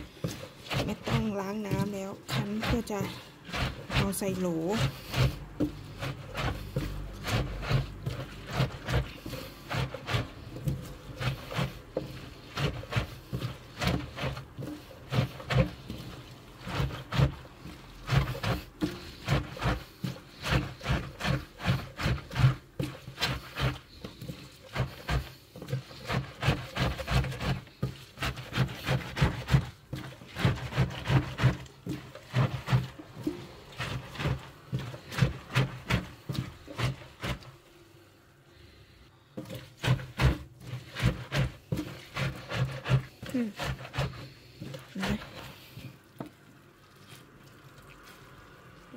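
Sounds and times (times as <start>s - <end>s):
hands squishing wet leaves: 0.0s - 37.9s, 38.5s - 48.9s.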